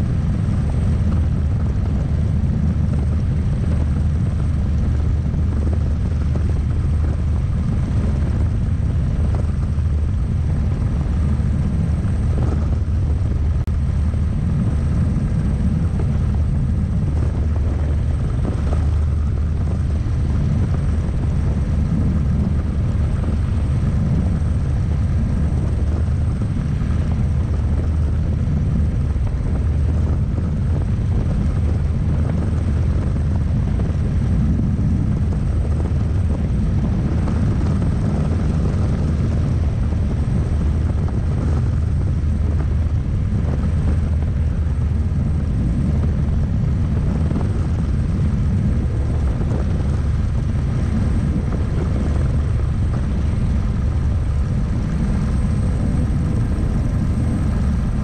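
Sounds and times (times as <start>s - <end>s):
helicopter rotor and turbine: 0.0s - 58.0s.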